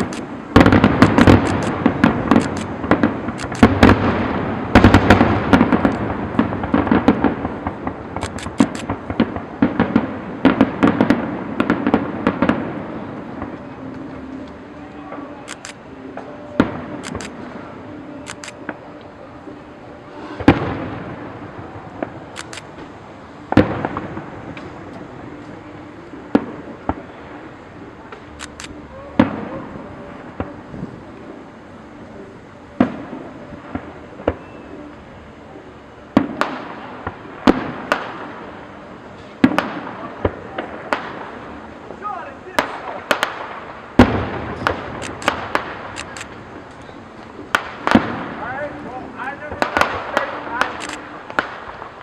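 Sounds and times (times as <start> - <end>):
fireworks bangs: 0.0 - 31.0, 32.8 - 35.0, 36.1 - 52.0
fireworks crackles and pops: 0.0 - 52.0.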